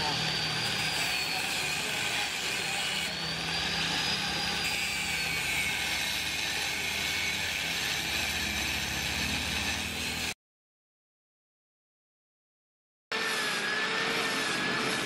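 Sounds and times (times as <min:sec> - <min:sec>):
angle grinder cutting steel: 0:00.0 - 0:10.4, 0:13.1 - 0:15.0.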